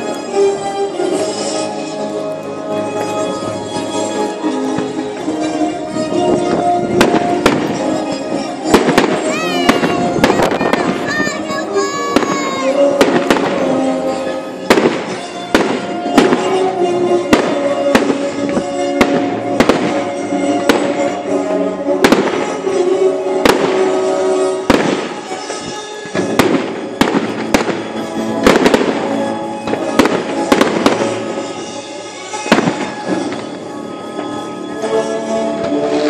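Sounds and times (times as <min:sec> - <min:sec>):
music playing: 0:00.0 - 0:36.0
fireworks bangs: 0:02.8 - 0:36.0.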